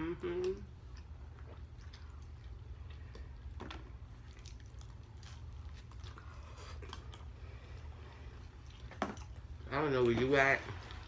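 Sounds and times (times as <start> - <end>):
person chewing food: 0.2 - 11.0.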